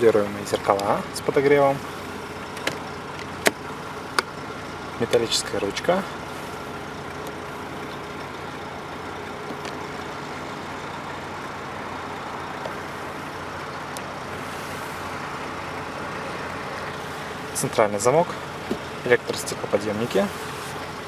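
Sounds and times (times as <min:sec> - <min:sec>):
road traffic hum: 0:00.0 - 0:21.0.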